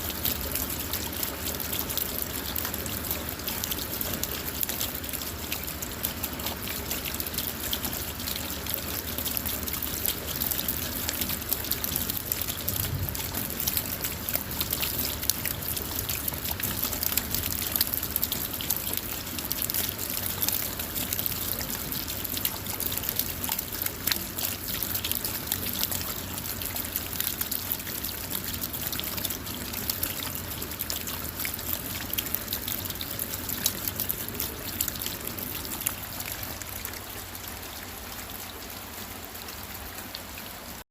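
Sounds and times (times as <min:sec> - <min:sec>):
rain falling on a car: 0:00.0 - 0:40.9.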